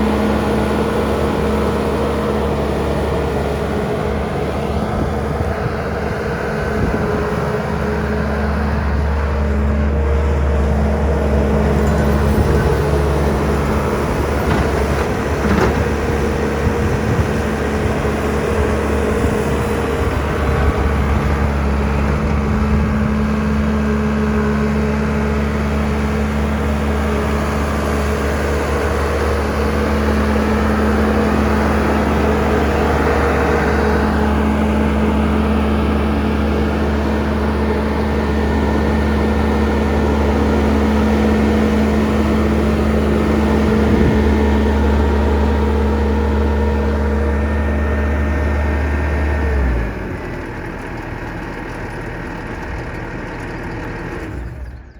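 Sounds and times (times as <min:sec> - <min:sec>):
diesel engine humming: 0:00.0 - 0:54.9.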